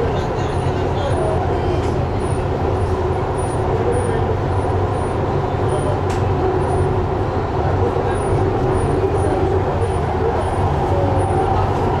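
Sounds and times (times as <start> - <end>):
faint passenger chatter: 0.0 - 12.0
train rumble inside carriage: 0.0 - 12.0.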